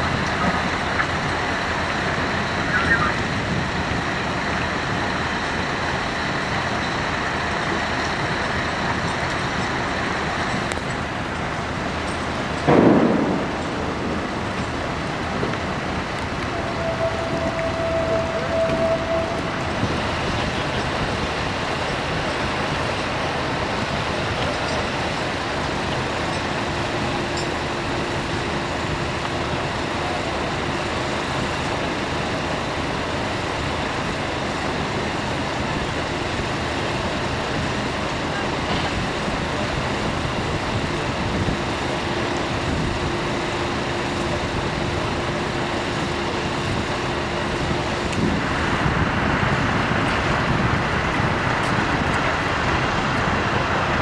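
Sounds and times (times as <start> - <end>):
vehicle engines running: 0.0 - 54.0.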